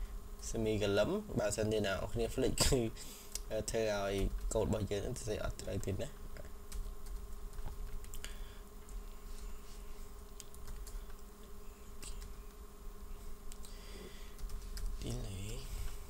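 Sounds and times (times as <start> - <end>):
faint background hum: 0.0 - 16.0.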